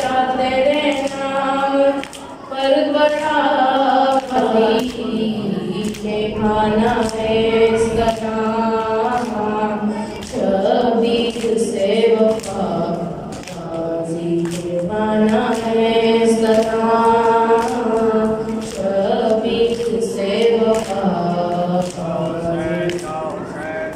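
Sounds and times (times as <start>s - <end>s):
men singing a lament: 0.0s - 23.9s.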